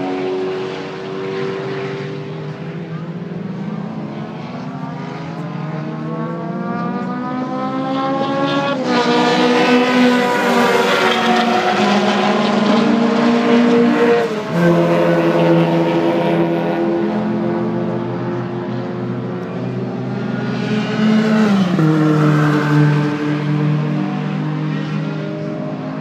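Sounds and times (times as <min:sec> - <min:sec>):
race car engine accelerating past: 0:03.6 - 0:26.0.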